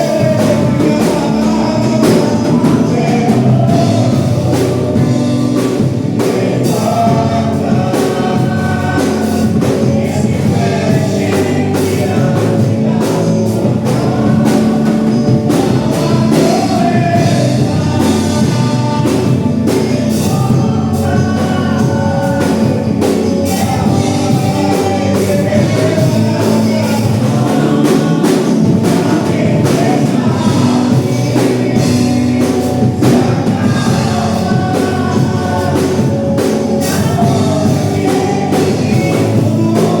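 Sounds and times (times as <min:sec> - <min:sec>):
steady drum beat: 0:00.0 - 0:40.0
voices singing over a band: 0:00.0 - 0:40.0.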